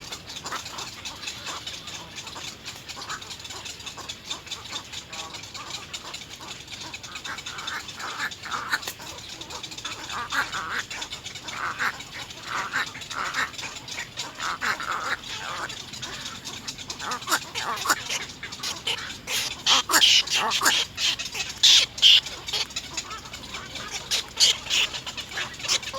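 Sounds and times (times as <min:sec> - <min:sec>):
egret chicks squawking: 0:00.1 - 0:25.9.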